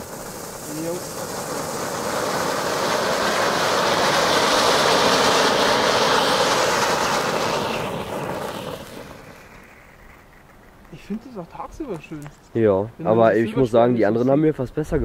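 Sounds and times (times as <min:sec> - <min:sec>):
fountain firework hissing: 0:00.0 - 0:13.8.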